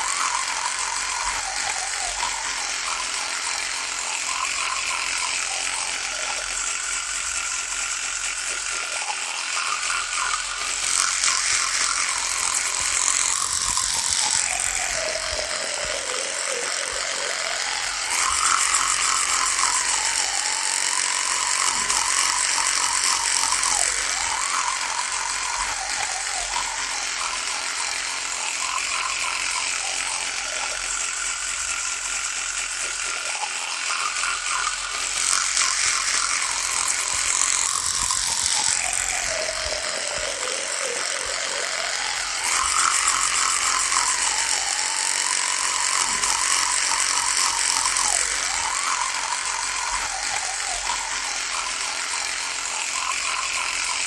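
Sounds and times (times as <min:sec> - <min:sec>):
electric toothbrush buzzing: 0:00.0 - 0:54.0.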